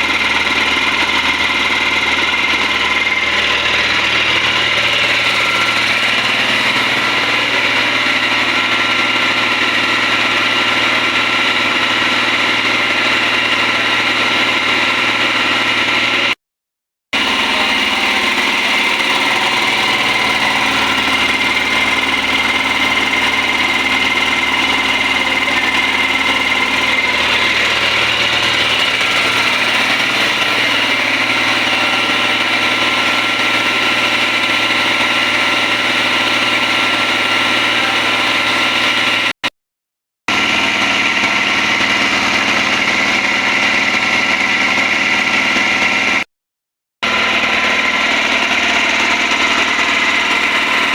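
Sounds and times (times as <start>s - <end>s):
air compressor running: 0.0s - 16.4s, 17.2s - 39.4s, 40.3s - 46.3s, 47.0s - 50.9s.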